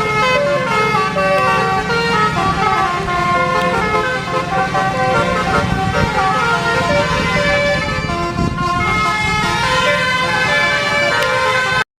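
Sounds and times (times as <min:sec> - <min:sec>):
bus engine running: 0:00.0 - 0:11.8
multi-tone bus horn melody: 0:00.0 - 0:11.9.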